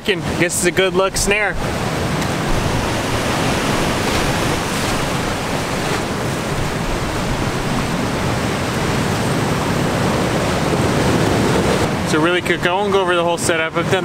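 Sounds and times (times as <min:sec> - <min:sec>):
surf washing over rocks: 0:00.0 - 0:14.0
wind rumbling on microphone: 0:00.2 - 0:12.6.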